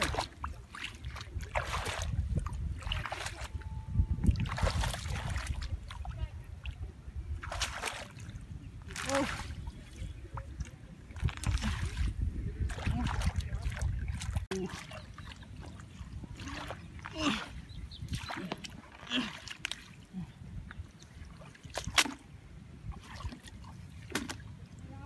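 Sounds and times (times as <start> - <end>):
hands splashing in muddy water: 0.0 - 3.6, 4.2 - 6.8, 7.4 - 22.3, 22.9 - 24.5.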